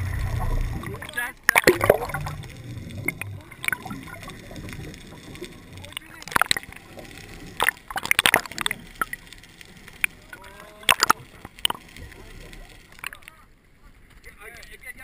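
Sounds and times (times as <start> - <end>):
sharp water splashes: 0.0 - 13.4
water lapping: 0.0 - 13.8.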